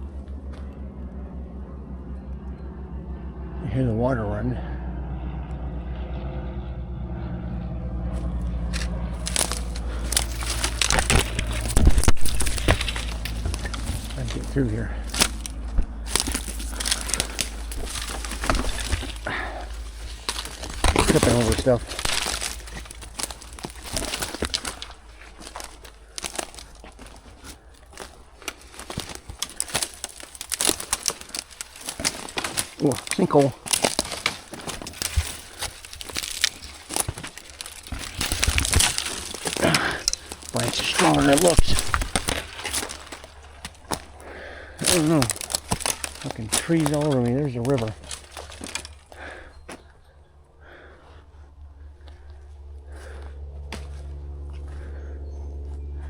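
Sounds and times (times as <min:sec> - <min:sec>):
low rumble: 0:00.0 - 0:56.0
footsteps crunching on dry leaves: 0:08.0 - 0:50.1, 0:50.7 - 0:56.0
twigs crackling and snapping: 0:08.0 - 0:56.0.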